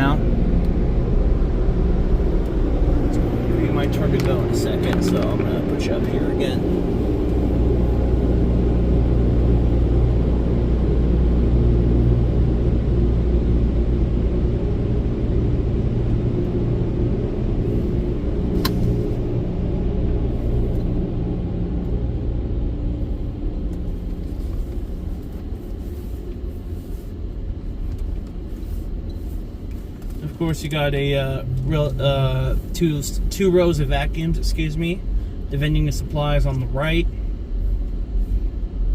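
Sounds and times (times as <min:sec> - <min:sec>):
car rumbling slowly: 0:00.0 - 0:38.9.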